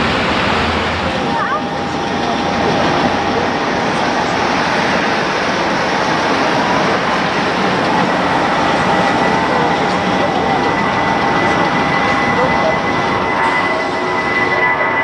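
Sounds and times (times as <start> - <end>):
jet airliner engines running: 0.0 - 15.0
thin steady whine: 0.0 - 15.0.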